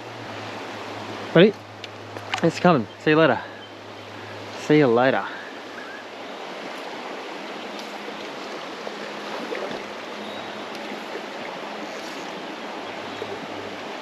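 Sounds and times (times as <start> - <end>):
creek flowing: 0.0 - 14.0.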